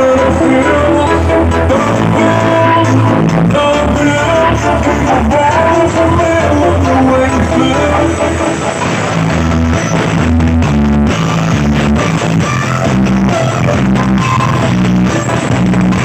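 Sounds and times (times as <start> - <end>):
loud music with pounding bass: 0.0 - 16.0.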